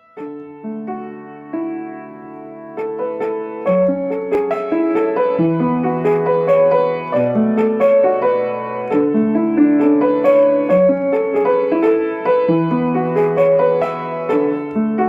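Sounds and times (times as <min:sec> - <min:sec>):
piano accompaniment: 0:00.0 - 0:15.0.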